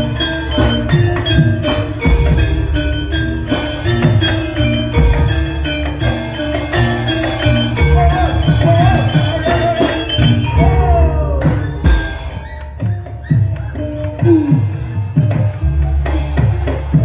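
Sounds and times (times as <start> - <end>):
metallophones ringing: 0.0 - 17.0.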